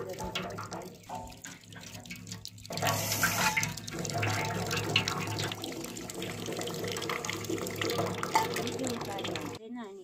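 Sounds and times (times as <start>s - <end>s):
water splashing on steel and stone: 0.0s - 9.6s.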